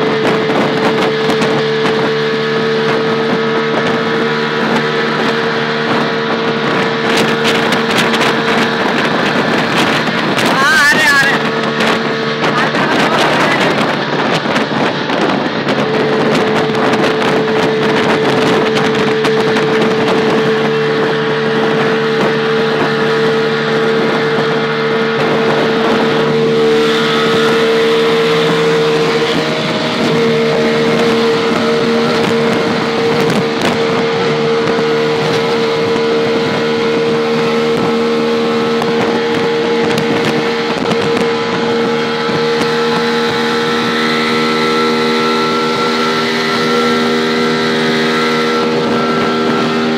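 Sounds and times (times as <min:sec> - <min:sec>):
road and wind noise: 0:00.0 - 0:49.9.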